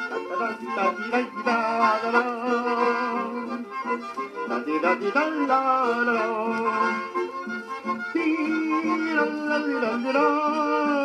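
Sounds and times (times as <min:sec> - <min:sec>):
accordion band playing a waltz: 0:00.0 - 0:11.0.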